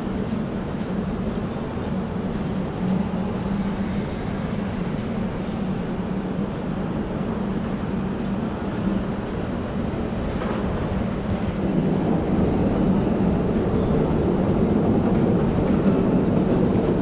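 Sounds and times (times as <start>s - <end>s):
indoor rumbling drone: 0.0s - 17.0s.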